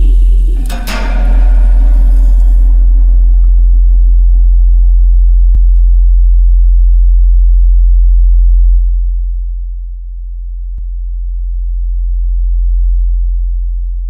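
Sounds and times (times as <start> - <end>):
deep electronic drone: 0.0 - 14.0.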